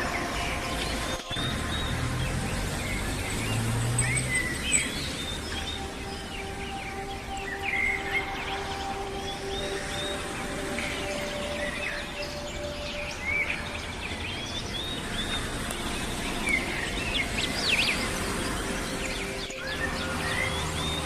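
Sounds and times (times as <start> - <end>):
outdoor background noise: 0.0 - 21.0
small birds chirping: 0.0 - 21.0.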